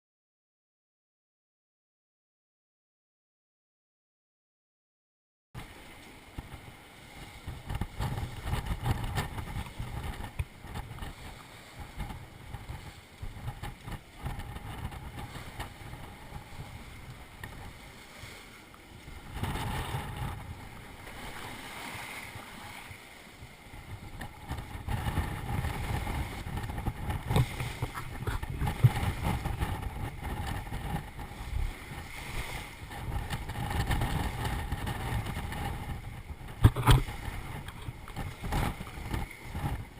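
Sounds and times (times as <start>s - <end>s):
water rushing along hull: 5.6s - 39.9s
wind buffeting microphone: 5.6s - 39.9s.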